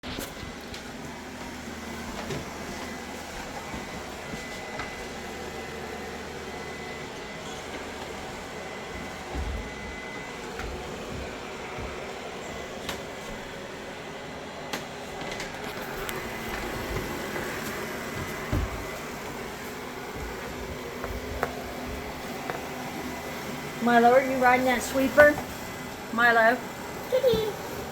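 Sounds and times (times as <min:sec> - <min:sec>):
robot vacuum motor hum: 0:00.1 - 0:26.1.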